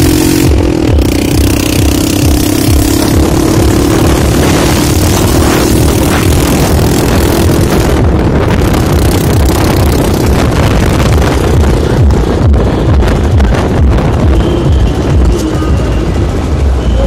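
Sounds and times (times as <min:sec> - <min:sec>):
wind rumble on microphone: 0:00.0 - 0:16.9
motorcycle engine running: 0:00.0 - 0:17.0.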